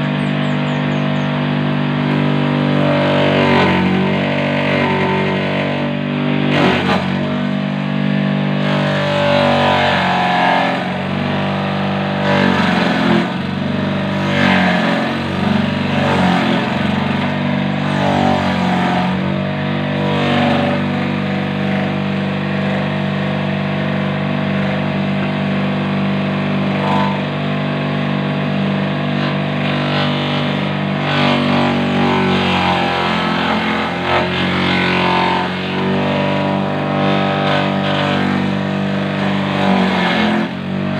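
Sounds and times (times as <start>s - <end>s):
electric motor humming: 0.0s - 40.9s
blades shredding banana stem: 1.9s - 40.9s.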